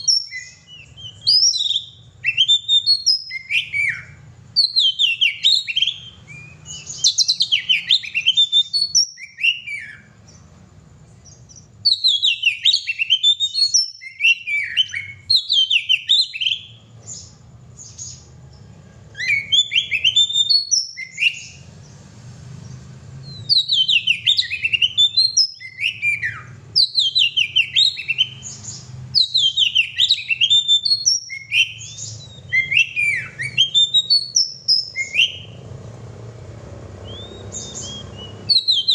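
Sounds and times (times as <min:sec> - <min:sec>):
bird singing whistles and chirps: 0:00.0 - 0:35.8, 0:36.8 - 0:38.9.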